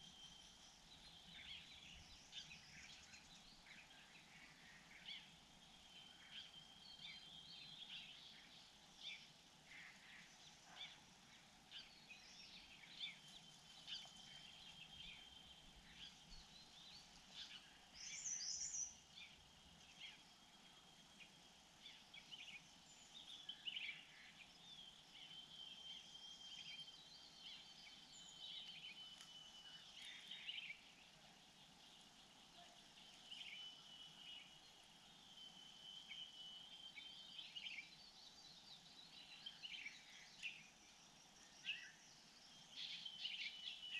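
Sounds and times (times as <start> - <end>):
faint bird chirps: 0.0 - 43.9.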